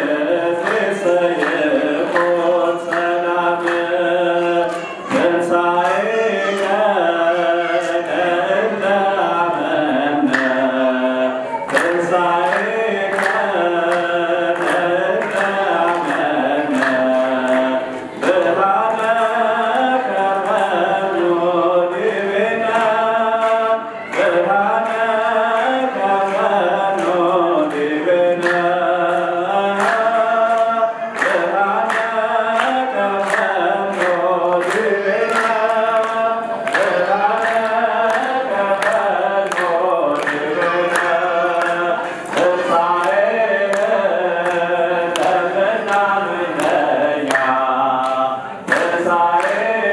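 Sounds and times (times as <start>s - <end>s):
man singing a hymn through a microphone: 0.0s - 49.9s.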